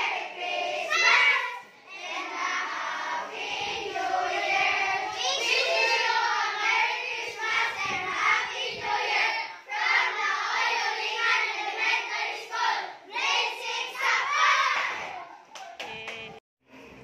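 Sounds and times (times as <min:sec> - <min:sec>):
children singing in unison: 0:00.0 - 0:15.2.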